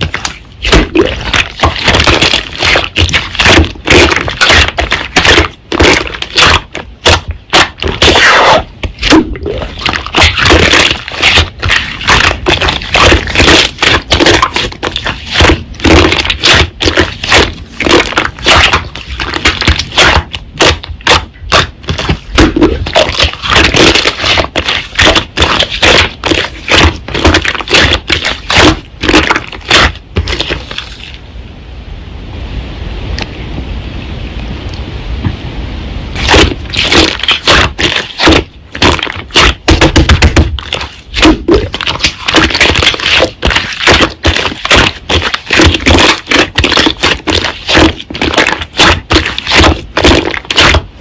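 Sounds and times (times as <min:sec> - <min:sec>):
slime crackling and popping: 0:00.0 - 0:31.0, 0:36.2 - 0:50.9.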